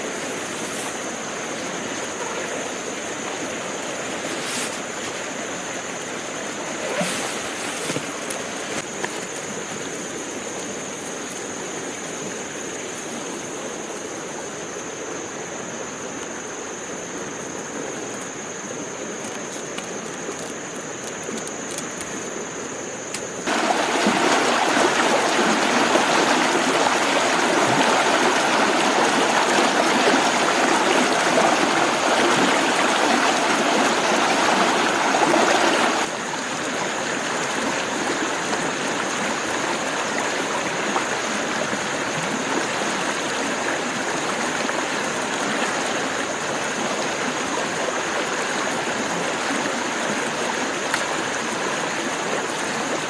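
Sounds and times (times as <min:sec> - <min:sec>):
stream running over rocks: 0:00.0 - 0:53.0.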